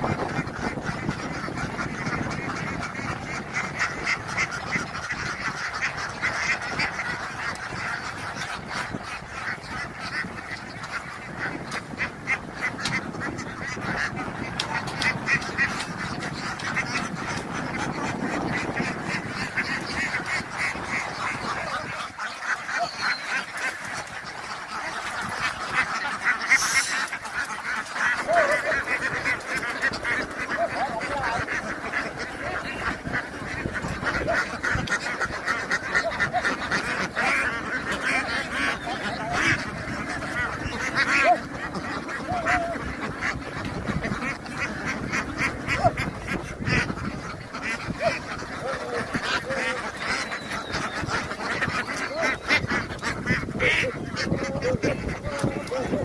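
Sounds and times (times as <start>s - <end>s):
ducks quacking: 0.0s - 56.0s.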